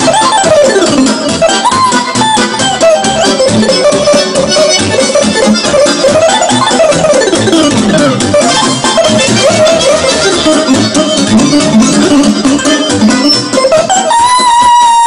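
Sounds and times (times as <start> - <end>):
electronic keyboard melody: 0.0 - 14.9
steady beat: 0.0 - 15.0.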